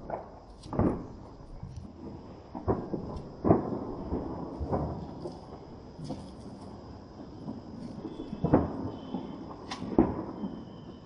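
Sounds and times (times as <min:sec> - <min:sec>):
distant fireworks bangs: 0:00.0 - 0:11.0.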